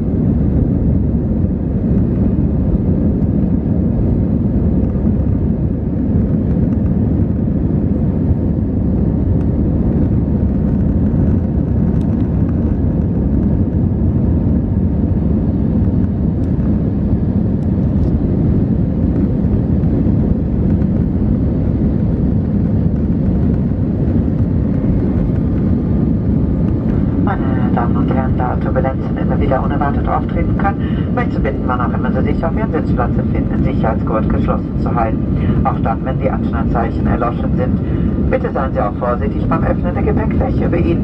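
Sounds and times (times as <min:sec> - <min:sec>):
jet engine roar in cabin: 0:00.0 - 0:41.0.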